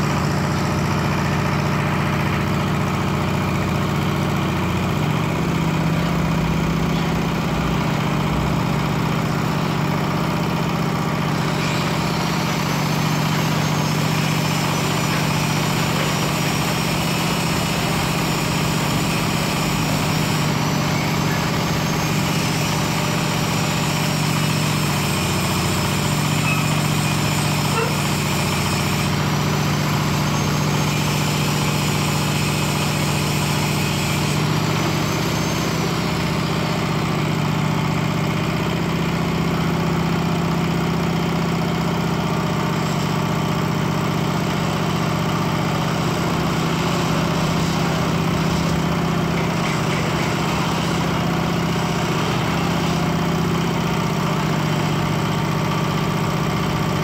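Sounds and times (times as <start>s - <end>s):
hoist engine idling: 0.0s - 57.0s.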